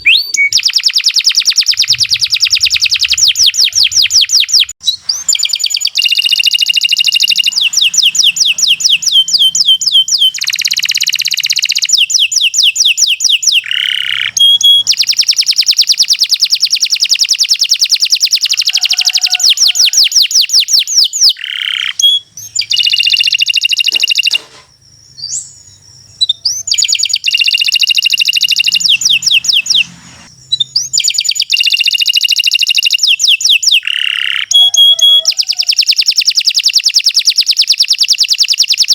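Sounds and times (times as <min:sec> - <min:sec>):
canary trilling song: 0:00.0 - 0:38.9.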